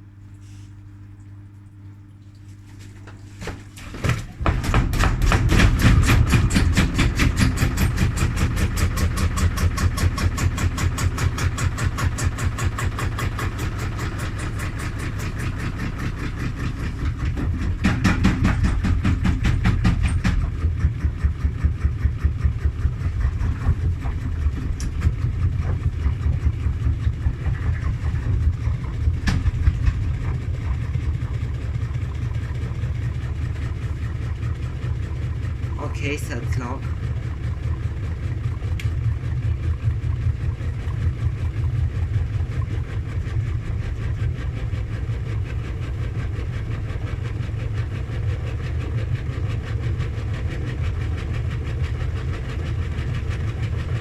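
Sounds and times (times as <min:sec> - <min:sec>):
motor humming: 0:00.0 - 0:54.0
washing machine drum knocking: 0:03.1 - 0:47.2.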